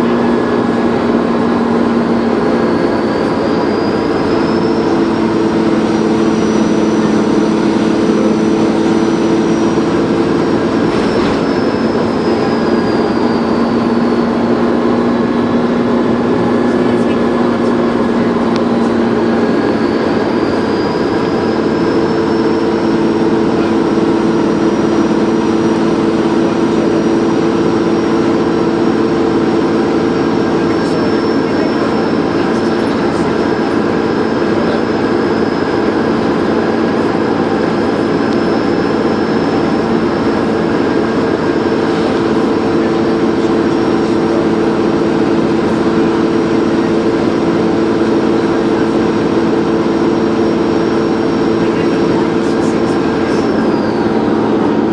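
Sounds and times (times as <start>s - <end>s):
bus engine running: 0.0s - 54.9s
turbocharger whistle: 0.0s - 54.9s.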